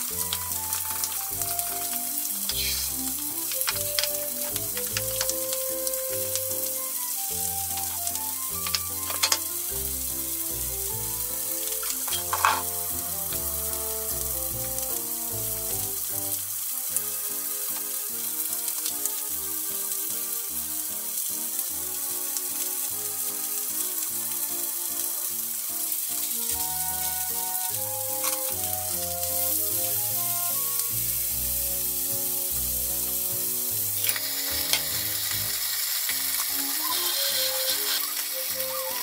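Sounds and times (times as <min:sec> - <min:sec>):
chicken sizzling in frying pan: 0:00.0 - 0:39.0
soft background music: 0:00.0 - 0:39.0.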